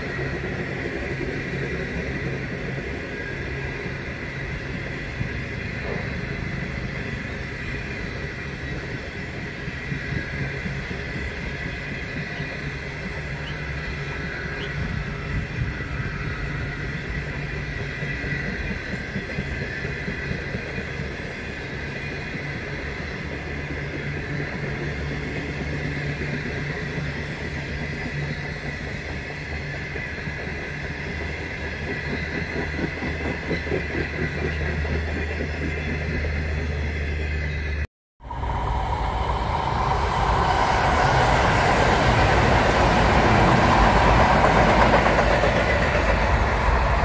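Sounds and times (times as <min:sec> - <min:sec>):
train wheels rolling on track: 0:00.0 - 0:47.0.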